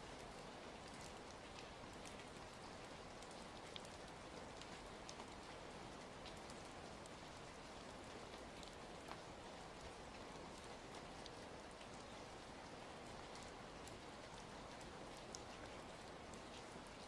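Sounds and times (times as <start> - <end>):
faint rain falling: 0.0 - 17.0.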